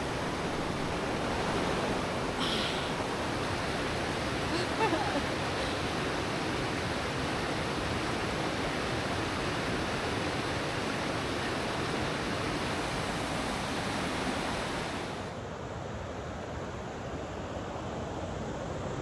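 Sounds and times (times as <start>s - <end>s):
stream rushing over rocks: 0.0s - 15.4s.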